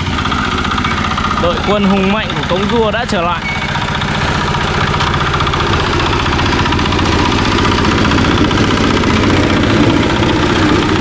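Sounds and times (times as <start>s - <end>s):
concrete mixer engine running: 0.0s - 11.0s.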